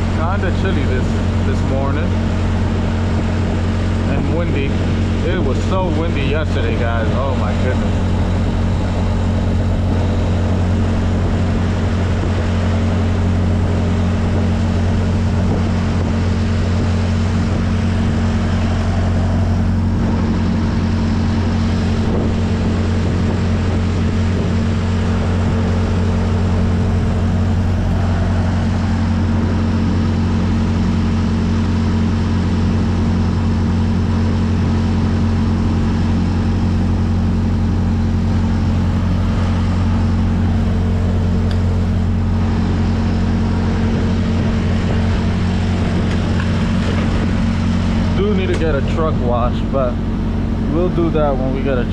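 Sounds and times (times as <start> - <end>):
truck diesel engine idling: 0.0 - 51.9.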